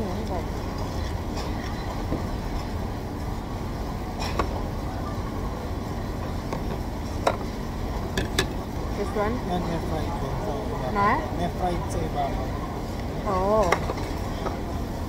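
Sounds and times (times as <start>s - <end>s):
restaurant background hum: 0.0s - 15.0s.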